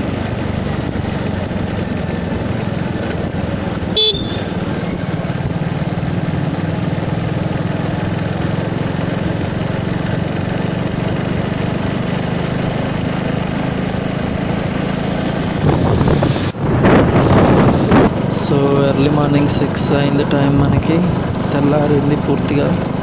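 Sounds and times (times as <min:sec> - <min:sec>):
motorcycle engine cruising: 0:00.0 - 0:23.0
road and wind noise: 0:00.0 - 0:23.0.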